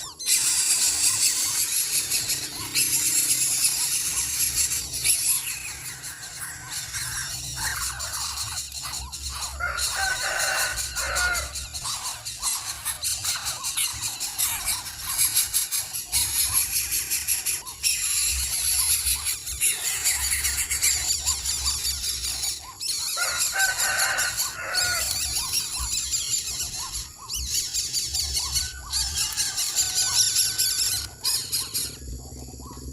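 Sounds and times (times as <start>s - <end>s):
animal squealing and squeaking: 0.0s - 32.9s.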